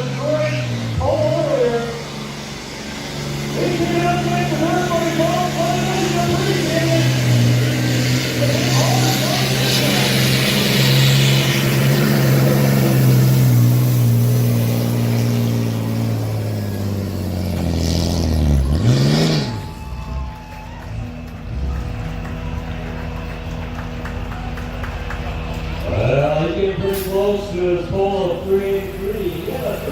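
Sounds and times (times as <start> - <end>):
diesel truck engine under load: 0.0 - 29.9.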